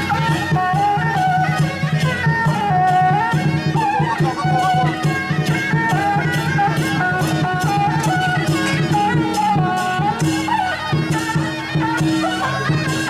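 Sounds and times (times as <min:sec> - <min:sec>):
fast drum and cymbal beat: 0:00.0 - 0:13.0
reedy wind melody: 0:00.0 - 0:13.0.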